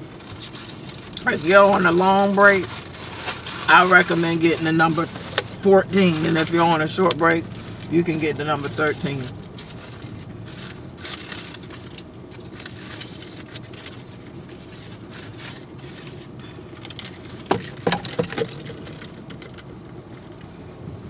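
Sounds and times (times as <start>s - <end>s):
car cabin hum: 0.0s - 21.0s.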